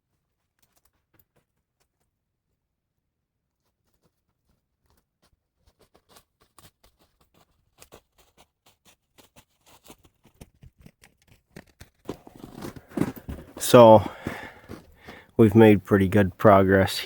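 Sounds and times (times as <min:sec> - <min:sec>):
faint irregular clicks and crunches: 0:00.0 - 0:02.2, 0:03.5 - 0:15.4.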